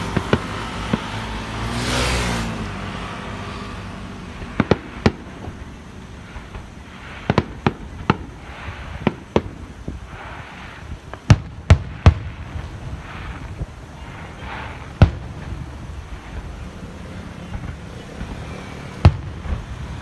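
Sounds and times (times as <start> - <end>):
firework shells bursting: 0.0 - 1.8, 4.2 - 20.0.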